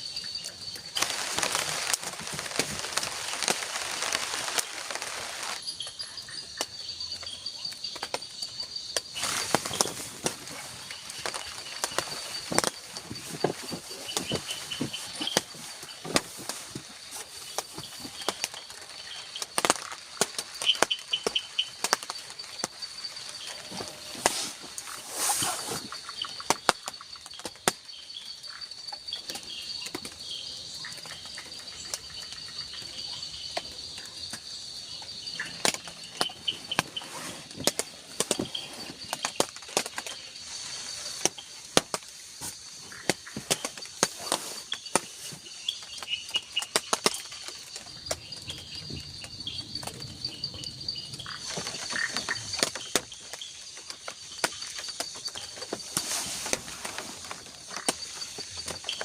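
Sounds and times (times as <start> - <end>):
raindrops dripping on shelter: 0.0 - 25.0, 25.6 - 59.0
high insect drone: 0.0 - 59.0
trilling insect calls: 0.0 - 59.0.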